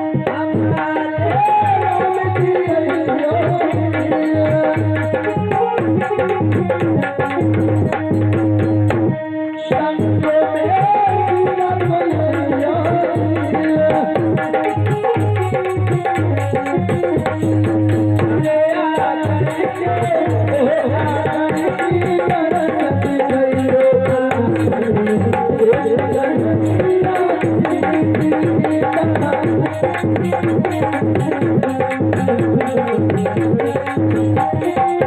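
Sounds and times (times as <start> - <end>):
tabla playing: 0.0 - 35.0.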